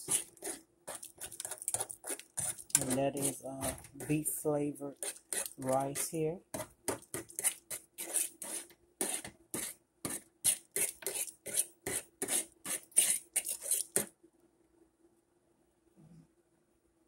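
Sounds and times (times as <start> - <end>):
utensil scraping metal saucepan: 0.0 - 14.1.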